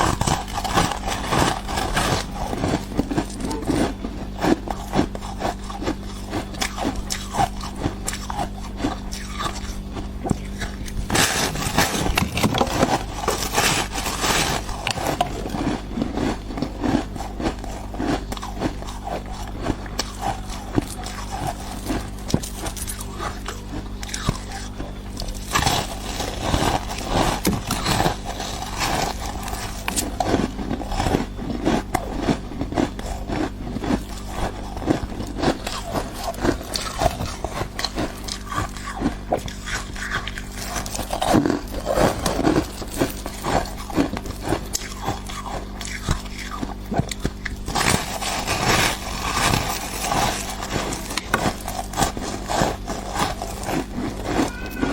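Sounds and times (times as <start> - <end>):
biting and chewing ice: 0.0 - 54.9.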